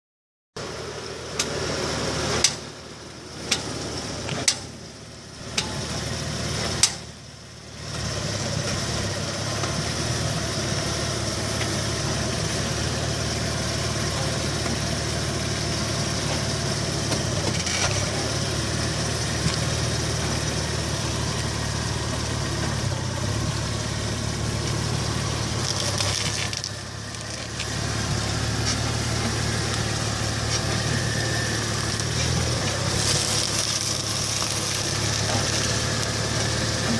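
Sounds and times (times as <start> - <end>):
car running with steady drone: 0.6 - 36.9.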